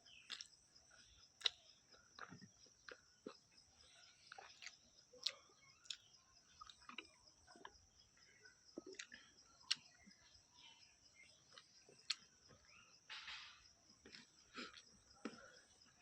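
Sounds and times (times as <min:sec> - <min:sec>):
person chewing food: 0:00.0 - 0:13.3, 0:14.0 - 0:16.0.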